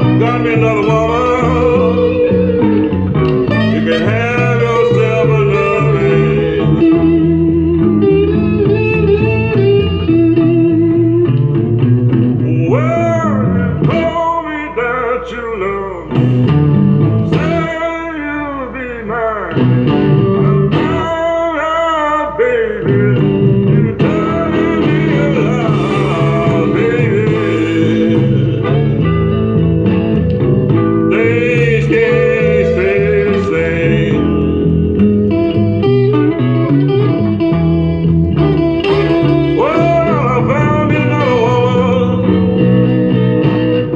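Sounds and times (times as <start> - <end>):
song with guitar and singing: 0.0 - 43.9.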